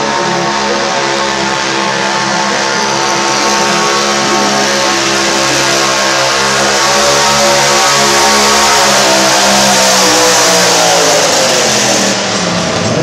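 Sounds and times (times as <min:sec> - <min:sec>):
garden tractor engine at high revs: 0:00.0 - 0:13.0.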